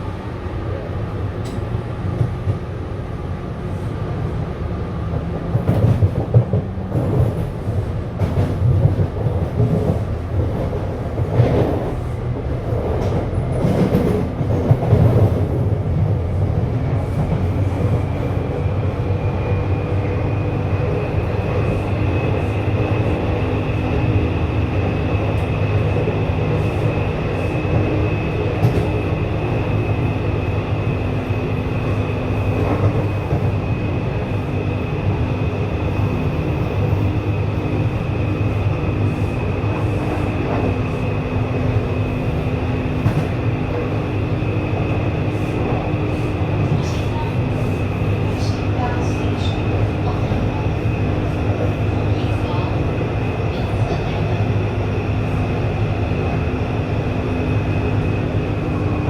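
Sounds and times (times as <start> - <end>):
high steady train whine: 0.0 - 59.0
train wheels rumbling on track: 0.0 - 59.0.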